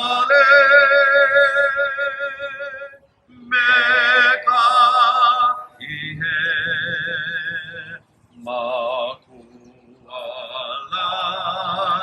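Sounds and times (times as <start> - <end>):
person singing with vibrato: 0.0 - 12.0.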